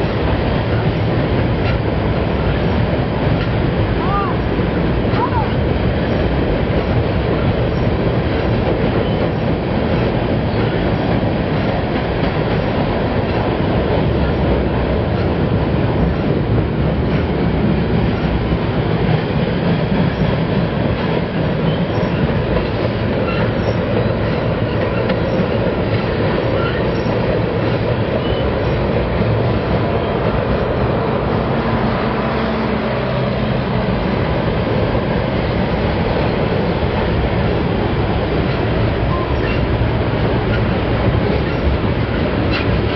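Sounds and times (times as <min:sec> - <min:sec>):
freight train rolling on rails: 0:00.0 - 0:42.9.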